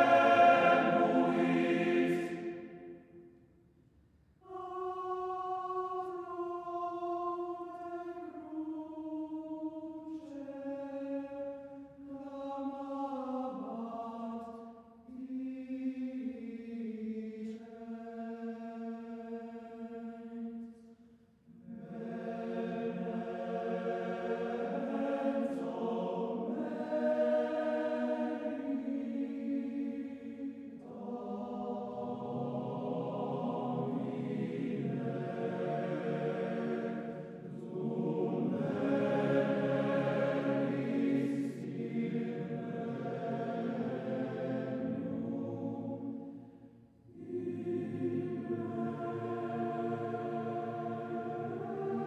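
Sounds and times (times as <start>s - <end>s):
choral chant singing: 0.0s - 3.2s, 4.4s - 20.9s, 21.5s - 52.0s.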